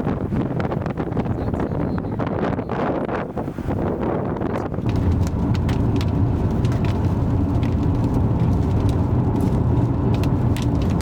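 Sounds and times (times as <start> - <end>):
wind and road noise in car: 0.0 - 11.0.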